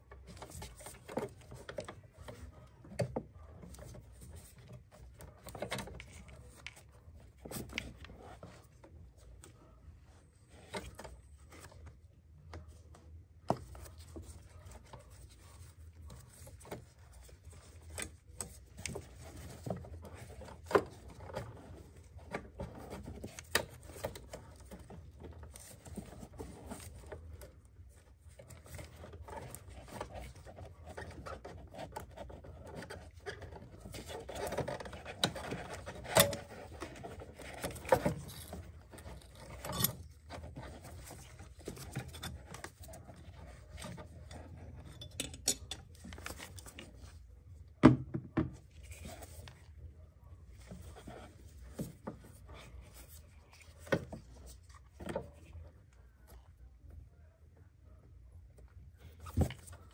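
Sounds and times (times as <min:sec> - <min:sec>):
hands handling car engine parts: 0:00.0 - 0:56.6.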